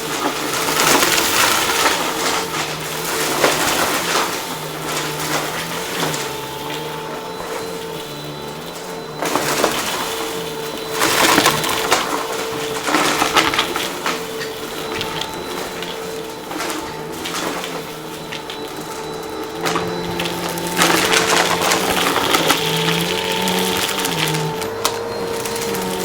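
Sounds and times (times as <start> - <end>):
debris rattling through vacuum: 0.0 - 26.0
vacuum cleaner motor hum: 0.0 - 26.0.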